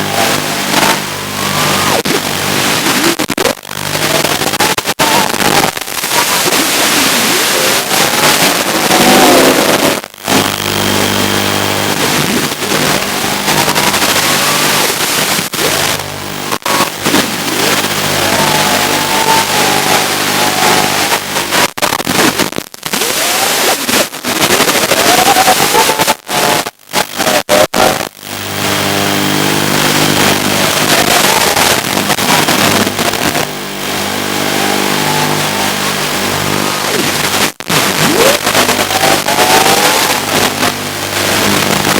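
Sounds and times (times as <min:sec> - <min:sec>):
drone motors whining: 0:00.0 - 0:21.7, 0:28.7 - 0:41.9
many-toned buzz: 0:00.0 - 0:41.9
static hiss: 0:00.0 - 0:41.9.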